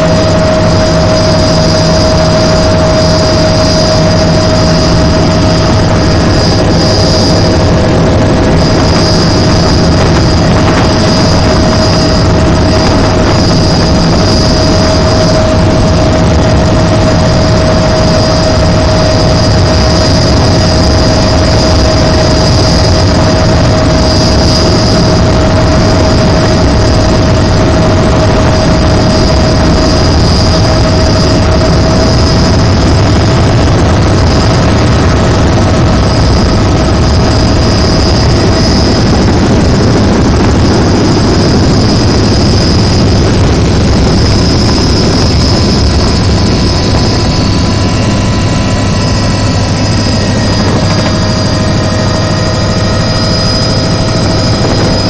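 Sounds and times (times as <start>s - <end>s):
constant engine whine: 0.0s - 55.0s
helicopter cabin drone: 0.0s - 55.0s.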